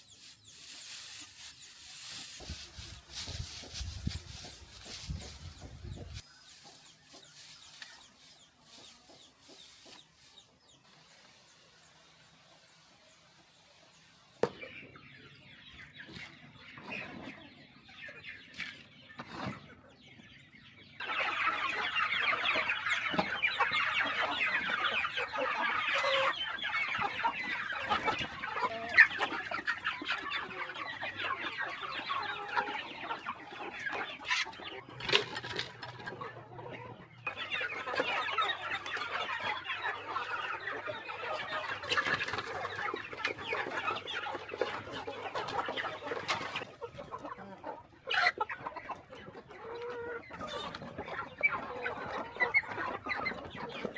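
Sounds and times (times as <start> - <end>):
hens clucking: 0.0 - 11.4, 14.4 - 53.9.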